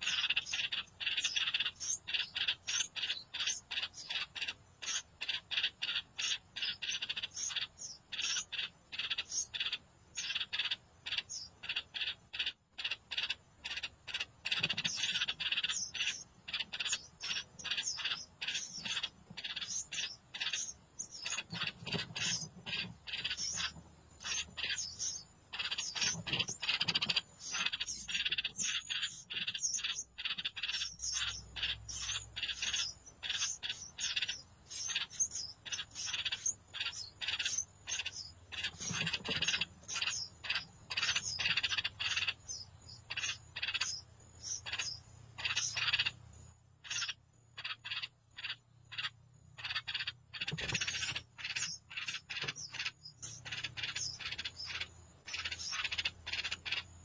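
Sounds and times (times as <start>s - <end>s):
nestlings chirping: 0.0s - 57.0s.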